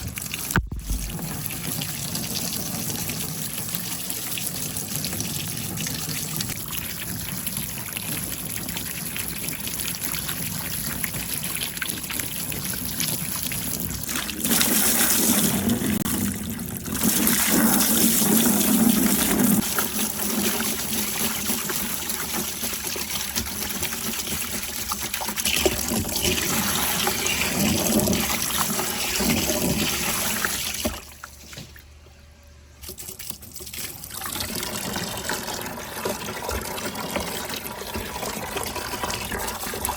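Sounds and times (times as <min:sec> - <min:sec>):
water trickling along marble run: 0:00.0 - 0:31.7, 0:32.8 - 0:39.9.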